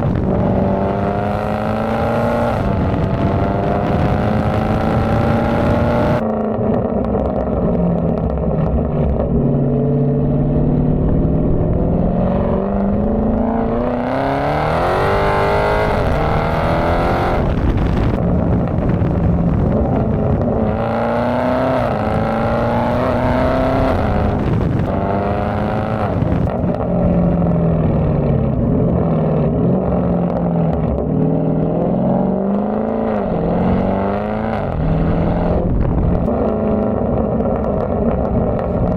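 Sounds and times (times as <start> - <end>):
car engine exhaust accelerating: 0.0 - 38.9.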